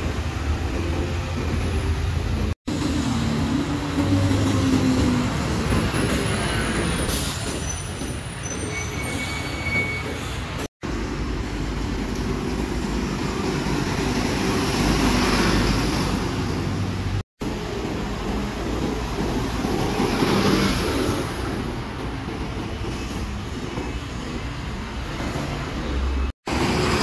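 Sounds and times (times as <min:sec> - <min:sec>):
bus diesel engines in traffic: 0:00.0 - 0:27.0.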